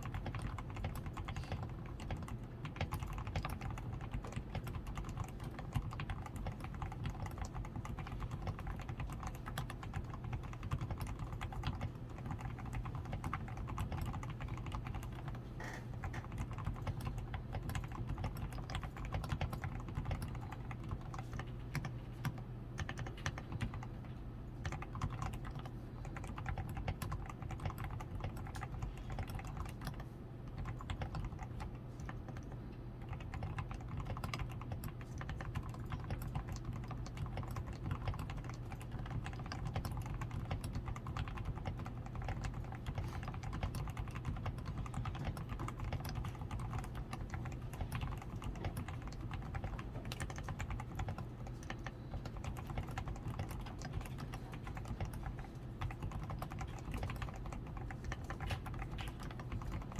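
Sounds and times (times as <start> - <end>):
fast typing on mechanical keyboard: 0.0 - 59.9.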